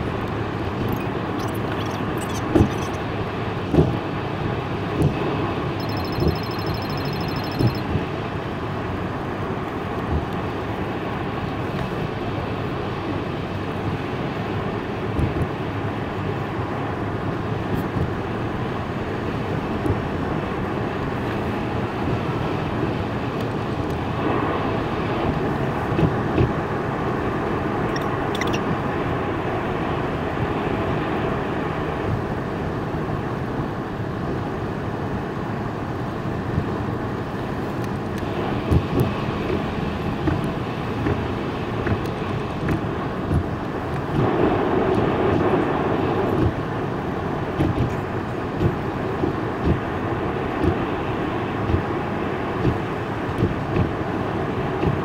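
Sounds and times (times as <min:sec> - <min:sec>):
car driving at speed: 0:00.0 - 0:55.0.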